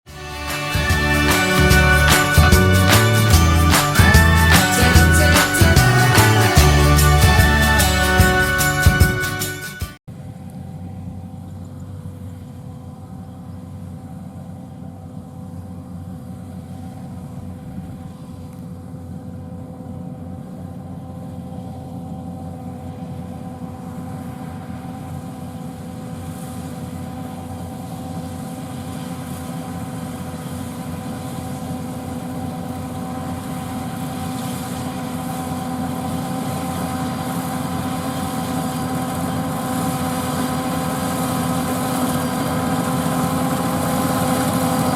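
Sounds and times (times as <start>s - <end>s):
harvester engine and machinery: 0.3s - 44.9s.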